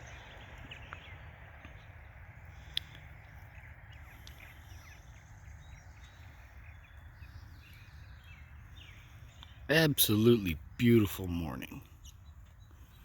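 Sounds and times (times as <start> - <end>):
faint bird calls: 0.0 - 13.0.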